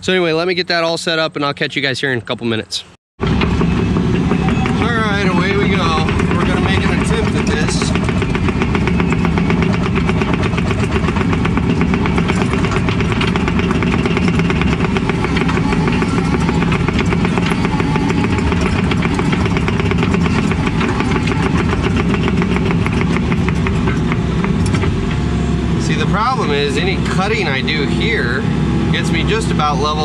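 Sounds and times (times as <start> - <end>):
excavator diesel engine running: 3.2 - 30.0.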